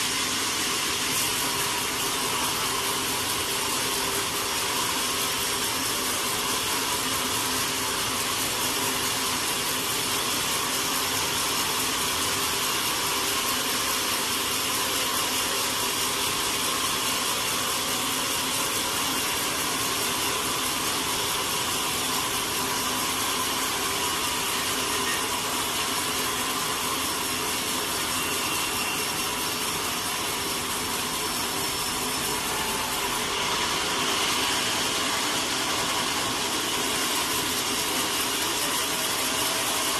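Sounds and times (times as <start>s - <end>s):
sawmill saw running with whine: 0.0s - 39.9s.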